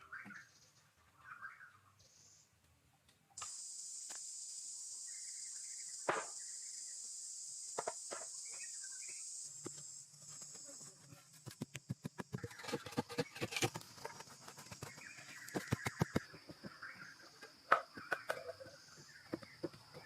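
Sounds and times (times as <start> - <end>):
faint chirps: 3.3 - 20.0
insect chorus: 3.4 - 20.0.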